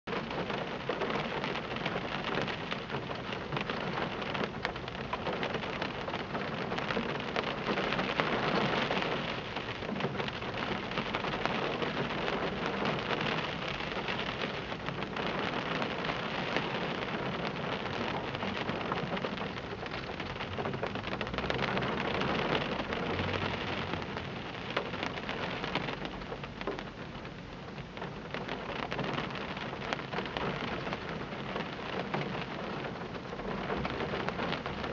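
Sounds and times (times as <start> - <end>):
heavy rain on glass: 0.1 - 34.9.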